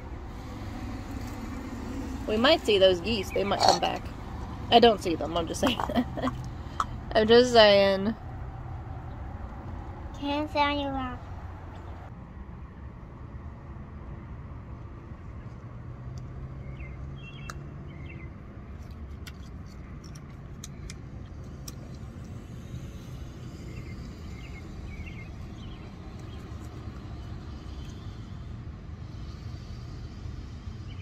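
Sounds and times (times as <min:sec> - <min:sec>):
distant road traffic rumble: 0:00.0 - 0:31.0.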